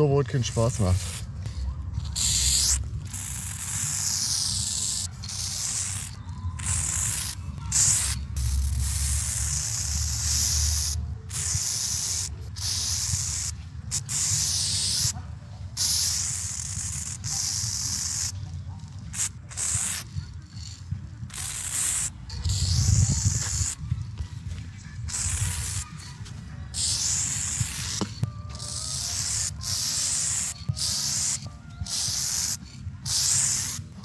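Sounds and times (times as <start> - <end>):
spray paint can hissing: 0.0 - 34.0.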